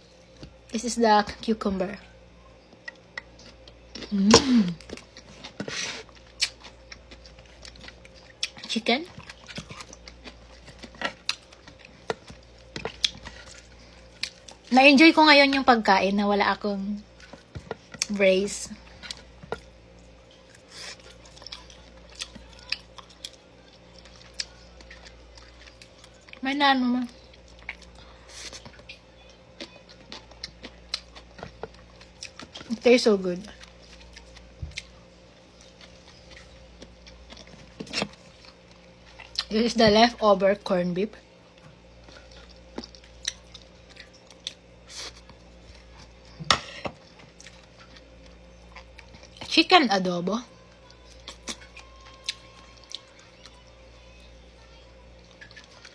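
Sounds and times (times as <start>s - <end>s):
steady low hum: 0.0s - 55.9s
soft chewing: 2.0s - 14.8s, 17.0s - 32.8s, 33.4s - 39.6s, 41.1s - 49.5s, 50.5s - 55.9s.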